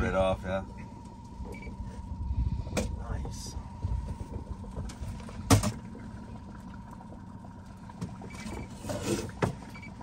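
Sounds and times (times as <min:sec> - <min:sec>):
outboard motor humming: 0:00.0 - 0:10.0.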